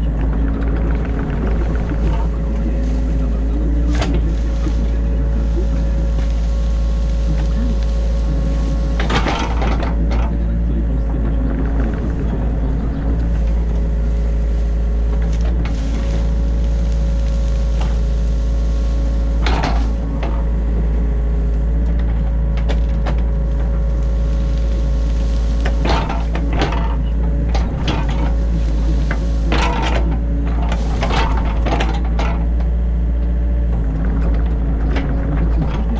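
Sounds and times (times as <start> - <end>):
excavator diesel engine running: 0.0 - 35.9
machine knocks and clanks: 0.0 - 35.9.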